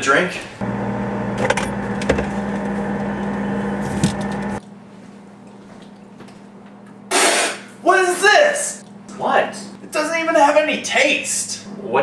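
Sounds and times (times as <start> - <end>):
electrical hum: 0.2 - 12.0.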